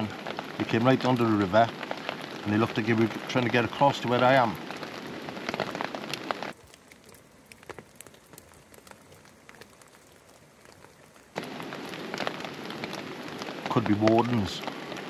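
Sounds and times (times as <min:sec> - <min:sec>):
rain pattering on tent: 0:00.0 - 0:15.0.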